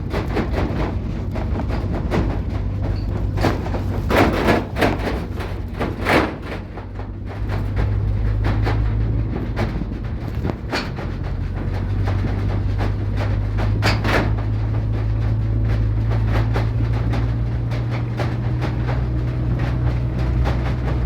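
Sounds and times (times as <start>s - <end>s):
knocks and rattles: 0.0s - 21.0s
vehicle engine droning: 0.0s - 21.0s.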